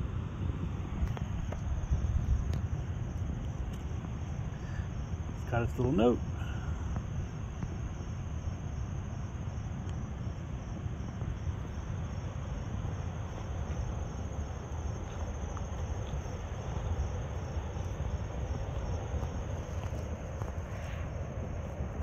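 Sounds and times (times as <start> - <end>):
insects trilling: 0.0 - 22.0
low outdoor rumble: 0.0 - 22.0.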